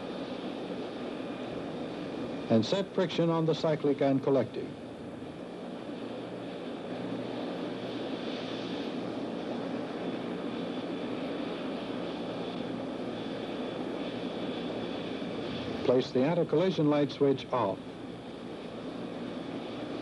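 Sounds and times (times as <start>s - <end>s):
helicopter turbine idling: 0.0s - 20.0s.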